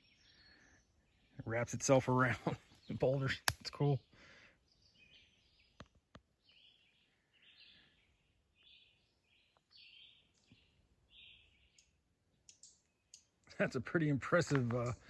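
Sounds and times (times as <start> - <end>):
faint songbird singing: 0.0 - 15.0.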